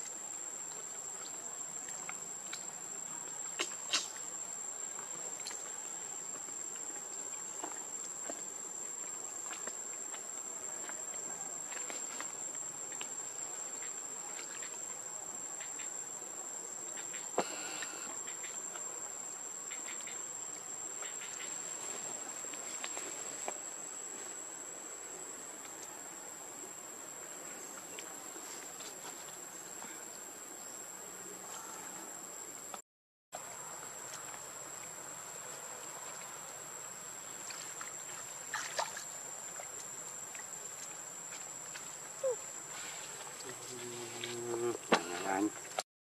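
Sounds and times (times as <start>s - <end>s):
insect droning: 0.0s - 32.8s, 33.4s - 45.8s.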